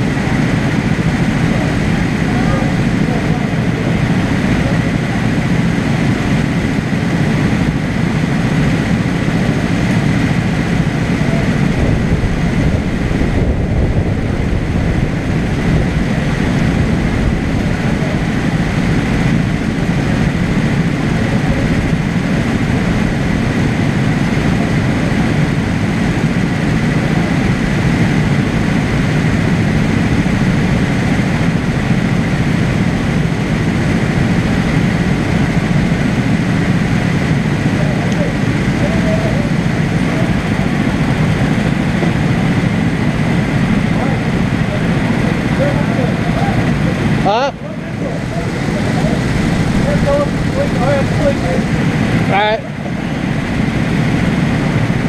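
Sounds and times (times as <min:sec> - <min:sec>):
go-kart engines idling: 0:00.0 - 0:55.0.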